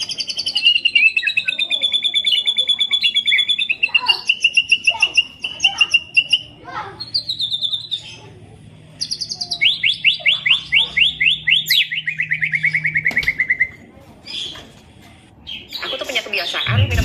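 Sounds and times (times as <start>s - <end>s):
bird singing rapid chirps: 0.0s - 8.3s, 9.0s - 14.6s.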